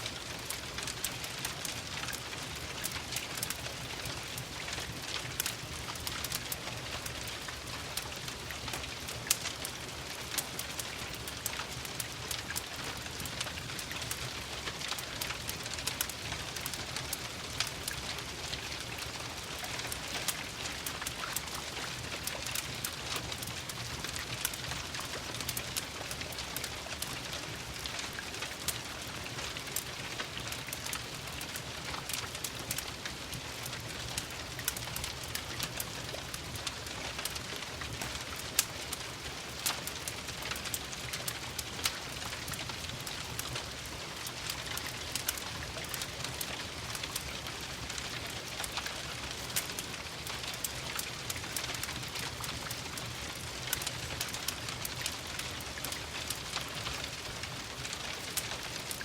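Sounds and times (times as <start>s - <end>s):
steady rain hiss: 0.0s - 59.0s
wood fire crackling: 0.0s - 59.0s.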